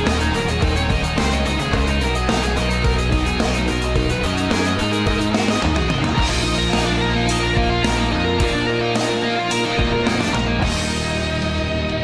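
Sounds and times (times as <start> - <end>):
distorted electric guitar: 0.0 - 12.0
steady rock drum beat: 0.0 - 12.0.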